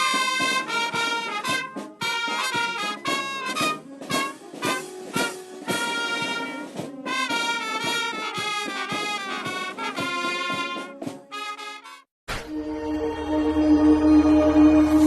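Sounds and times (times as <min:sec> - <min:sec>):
brass band playing: 0:00.0 - 0:12.1.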